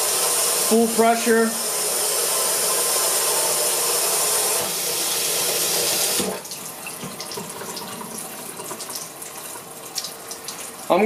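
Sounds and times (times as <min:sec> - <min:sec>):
water hissing into a steel sink: 0:00.0 - 0:11.0.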